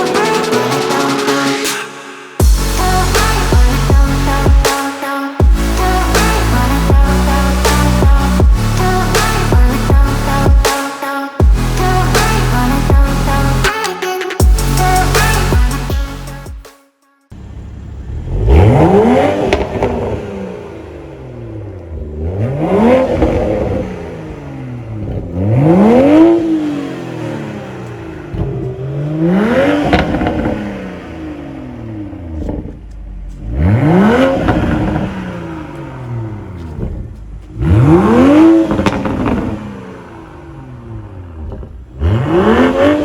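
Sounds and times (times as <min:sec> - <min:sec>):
car engine revving: 0:02.4 - 0:13.8, 0:14.4 - 0:16.5, 0:17.4 - 0:43.0.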